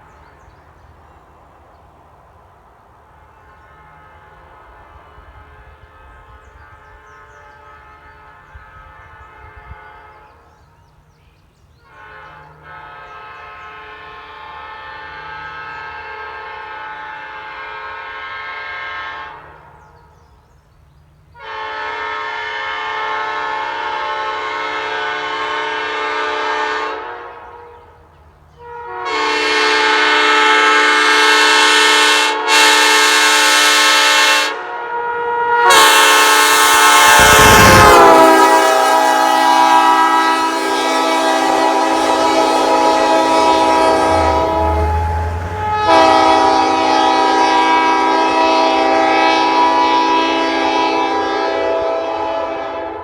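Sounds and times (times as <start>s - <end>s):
locomotive air horn blasts: 3.2s - 10.6s, 11.9s - 19.8s, 21.4s - 28.0s, 28.6s - 53.0s.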